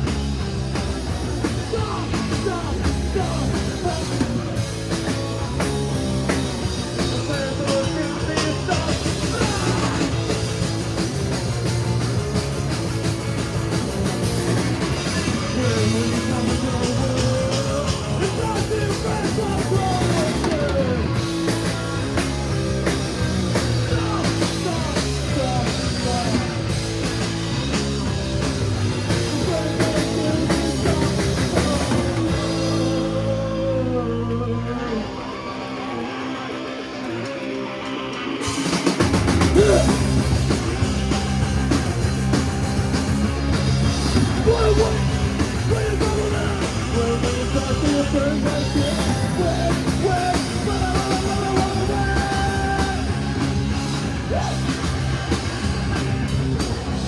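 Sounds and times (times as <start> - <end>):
drum kit: 0.0 - 57.0
rock band playing live: 0.0 - 57.0.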